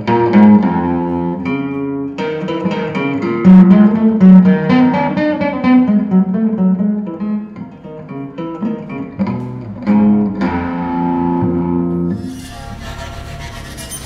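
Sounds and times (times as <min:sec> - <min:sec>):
plucked string instrument notes: 0:00.0 - 0:13.0.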